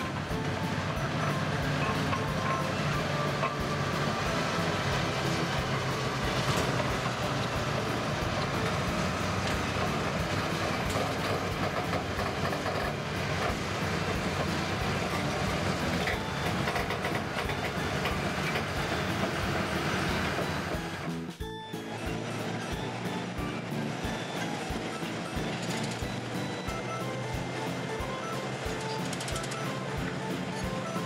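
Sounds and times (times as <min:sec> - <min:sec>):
clattering rattle of crawler tracks: 0:00.0 - 0:31.0
machine engine: 0:00.0 - 0:31.0.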